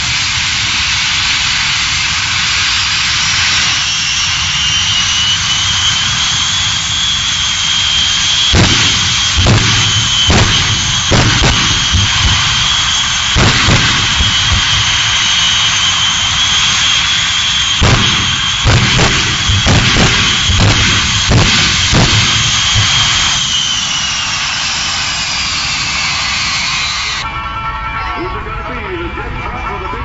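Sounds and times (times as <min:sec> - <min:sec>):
jet engines whining: 0:00.0 - 0:30.0
sharp bangs: 0:01.3 - 0:27.3.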